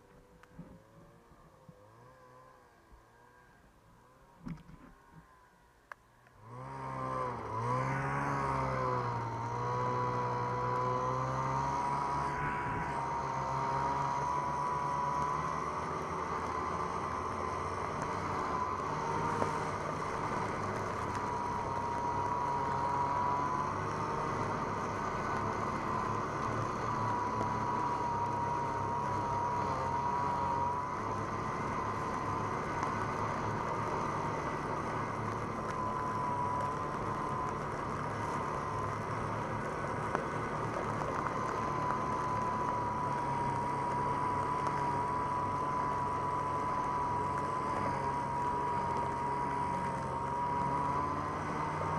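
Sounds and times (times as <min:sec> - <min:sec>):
snowmobile engine running: 0:06.4 - 0:51.9
wavering high whine: 0:10.3 - 0:51.9.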